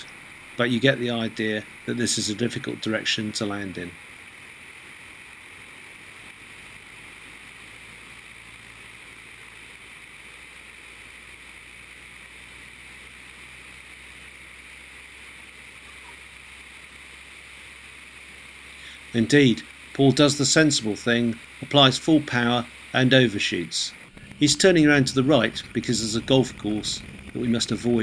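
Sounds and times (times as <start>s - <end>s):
aircraft airflow and engine rushing: 0.0s - 28.0s.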